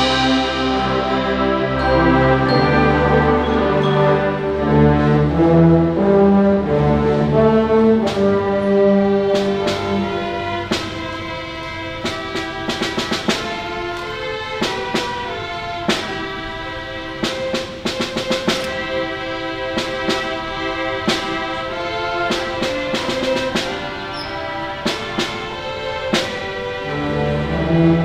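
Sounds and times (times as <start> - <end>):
snare and bass drum strokes: 0.0 - 3.5, 6.6 - 28.0
orchestra brass and string chords: 0.0 - 28.0.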